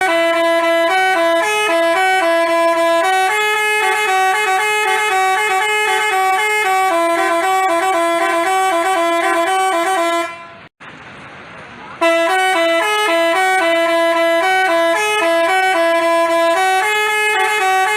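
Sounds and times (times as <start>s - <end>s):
multi-tone bus horn tune: 0.0s - 10.7s, 12.0s - 17.9s.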